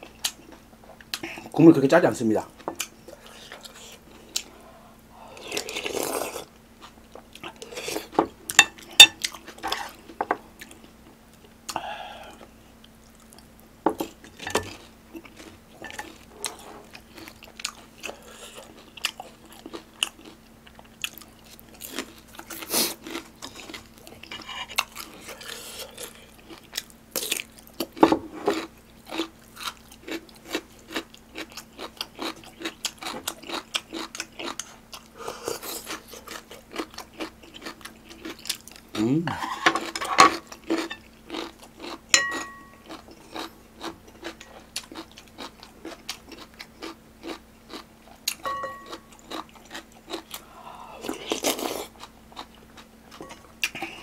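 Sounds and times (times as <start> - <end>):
chewing and crunching food: 0.0 - 1.6, 2.4 - 54.0
faint steady hum: 0.0 - 54.0.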